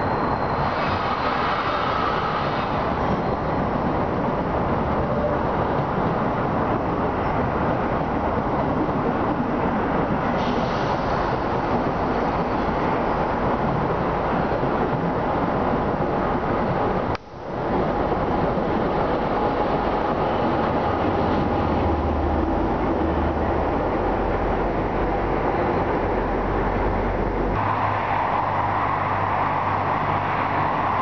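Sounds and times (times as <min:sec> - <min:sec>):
diesel train passing: 0:00.0 - 0:31.0.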